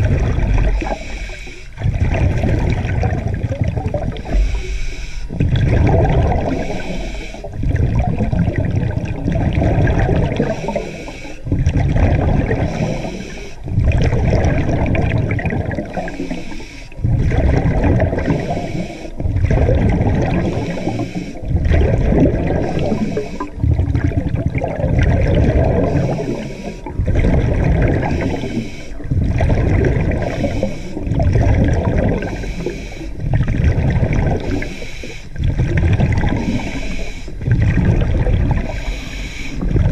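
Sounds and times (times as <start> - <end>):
diver breathing underwater: 0.0 - 39.9.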